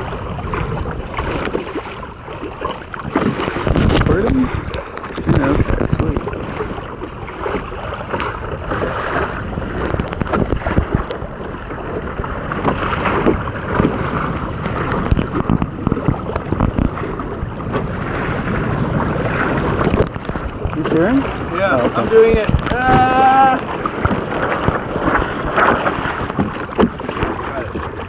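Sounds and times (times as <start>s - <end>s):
water splashing against hulls: 0.0s - 28.0s
wind buffeting microphone: 0.0s - 28.0s.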